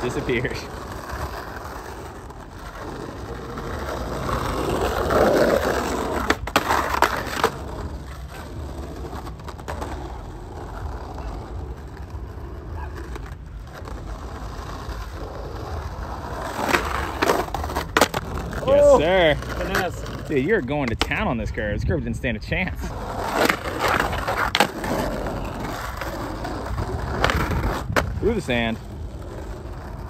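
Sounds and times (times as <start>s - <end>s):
skateboard wheels rolling on asphalt: 0.0s - 30.0s.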